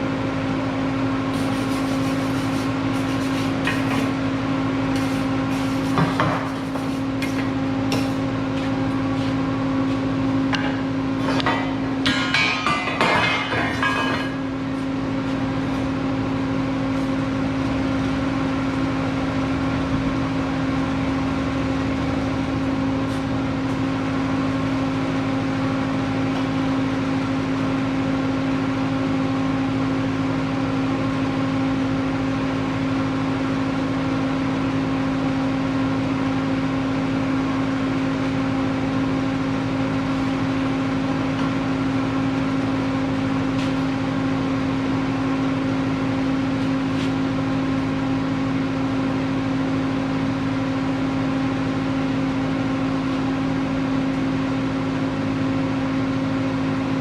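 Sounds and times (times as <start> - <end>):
welding machine humming: 0.0 - 57.0.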